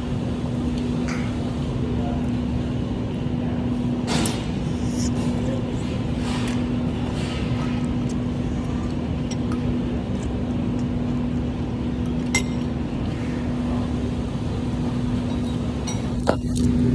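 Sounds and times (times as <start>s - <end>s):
constant hum: 0.0s - 16.9s.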